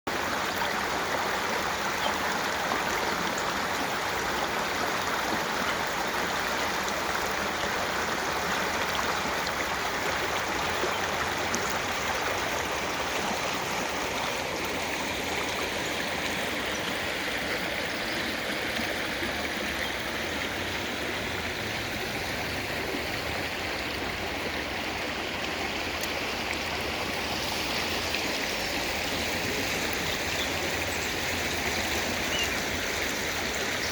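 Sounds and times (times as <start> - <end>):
running water flowing: 0.1 - 33.9.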